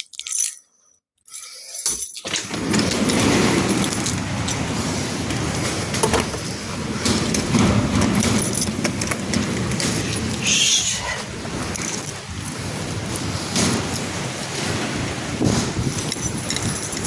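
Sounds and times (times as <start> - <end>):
debris rattling and clattering: 1.7 - 17.0
strong wind rushing: 2.5 - 17.0.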